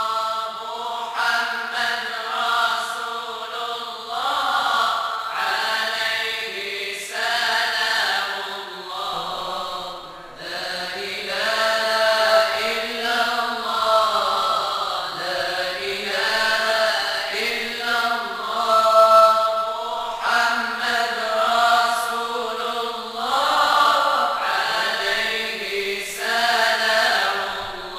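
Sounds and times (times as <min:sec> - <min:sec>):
person chanting devotional praise: 0:00.0 - 0:27.9.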